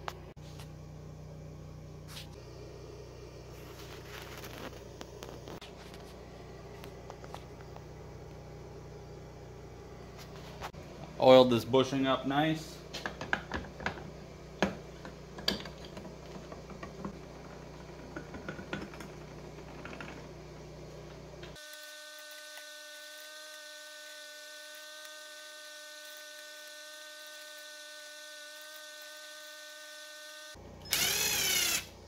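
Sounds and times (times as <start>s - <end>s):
faint steady whine: 0.0s - 32.0s.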